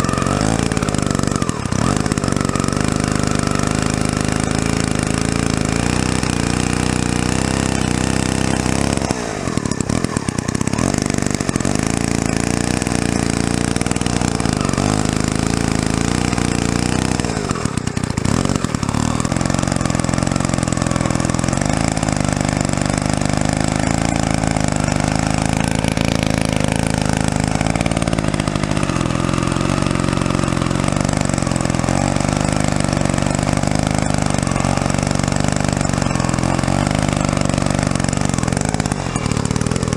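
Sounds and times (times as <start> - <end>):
chainsaw sawing into stump: 0.0 - 39.9.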